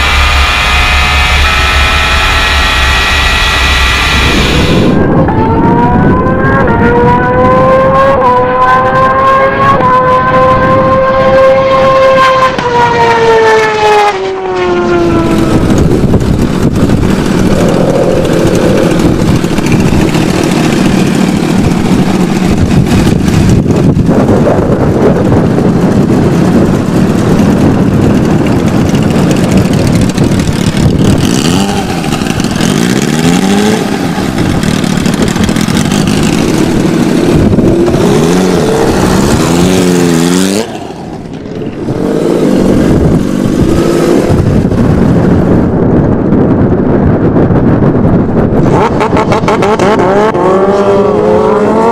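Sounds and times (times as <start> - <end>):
motorcycle engine at high revs: 0.0 - 45.9, 48.4 - 51.9.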